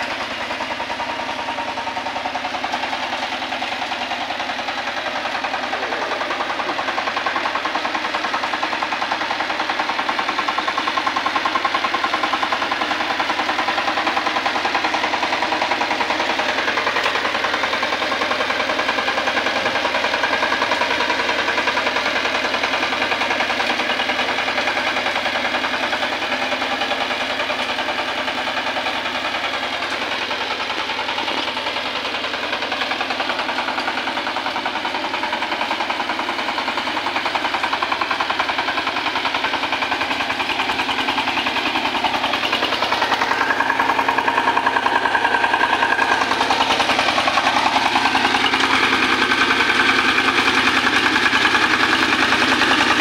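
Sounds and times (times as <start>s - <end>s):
diesel engine running: 0.0s - 53.0s
wheels splashing in water: 0.0s - 53.0s.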